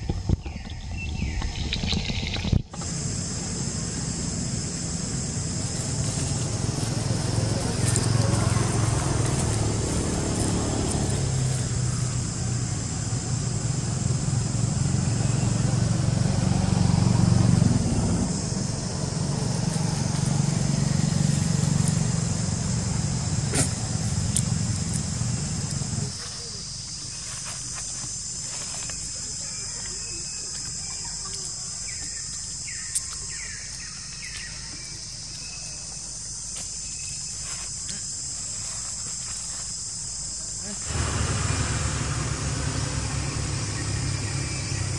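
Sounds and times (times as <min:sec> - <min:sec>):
high-pitched insect chorus: 0:00.0 - 0:44.9
motor engine humming: 0:02.2 - 0:36.8, 0:40.2 - 0:44.9.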